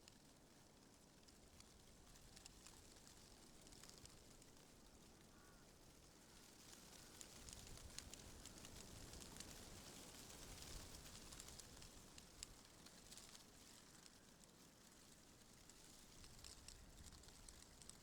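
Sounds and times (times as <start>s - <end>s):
leaves rustling in wind: 0.1s - 18.0s.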